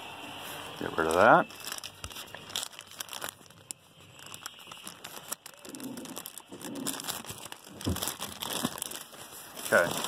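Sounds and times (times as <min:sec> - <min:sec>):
plastic packaging crinkling: 0:00.4 - 0:10.0.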